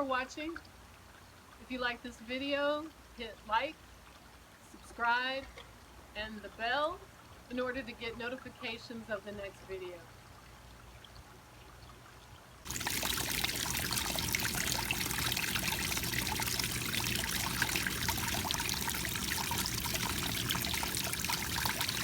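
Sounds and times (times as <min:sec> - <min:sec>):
water trickling down stone waterfall: 0:00.0 - 0:22.0.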